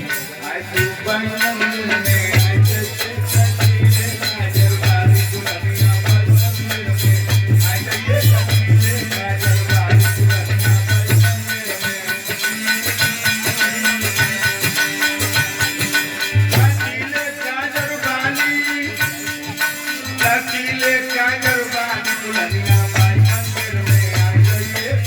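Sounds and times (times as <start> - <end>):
pulsing drum beat: 0.0 - 25.0.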